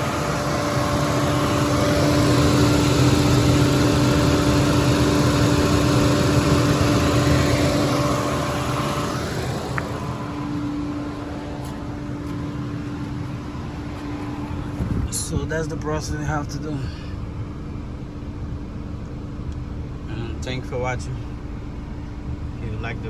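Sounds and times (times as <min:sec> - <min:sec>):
car engine idling: 0:00.0 - 0:23.0
fan rushing air: 0:00.0 - 0:23.0.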